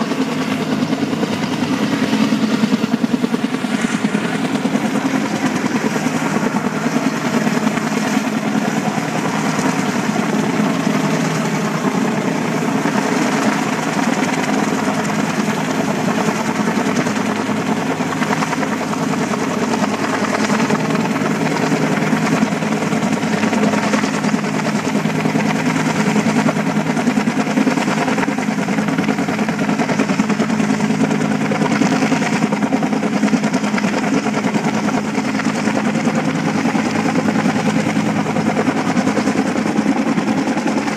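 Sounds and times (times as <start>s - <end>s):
helicopter flying overhead: 0.0s - 40.9s.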